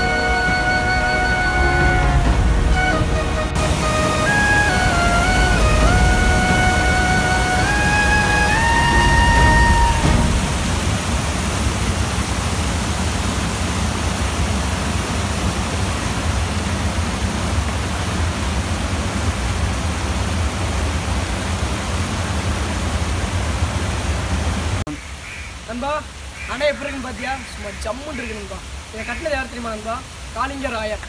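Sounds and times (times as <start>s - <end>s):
water cascading over weir: 0.0s - 31.0s.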